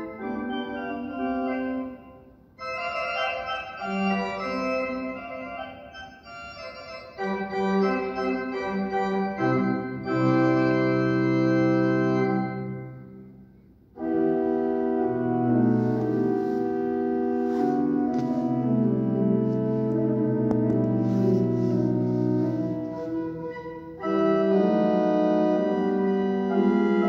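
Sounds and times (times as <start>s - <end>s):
church organ playing full chords: 0.0s - 27.0s.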